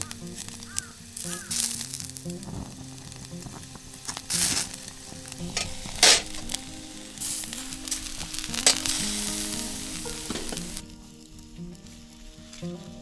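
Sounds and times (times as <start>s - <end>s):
meat fat sizzling on charcoal: 0.0s - 13.0s
sharp pops and crackles: 0.0s - 13.0s.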